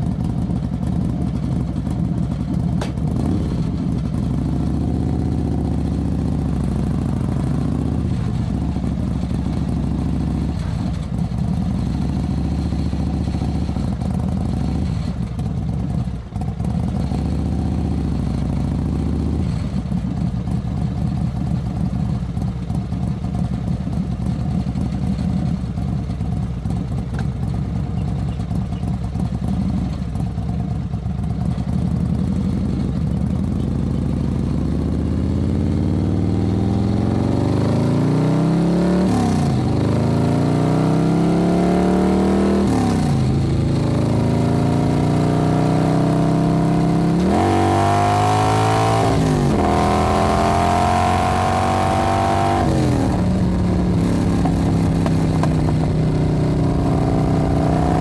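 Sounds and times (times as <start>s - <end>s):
motorcycle engine low drone: 0.0s - 58.0s.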